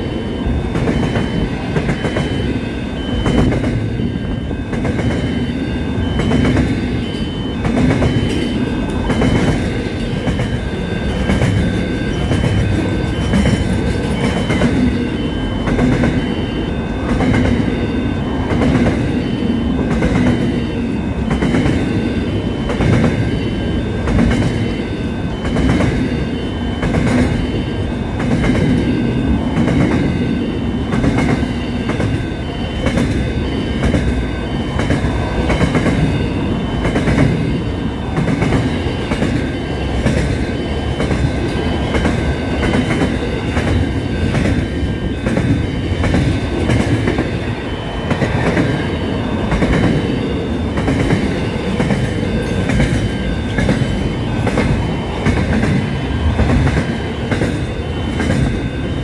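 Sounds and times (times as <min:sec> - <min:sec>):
train wagons rumbling past: 0:00.0 - 0:59.0.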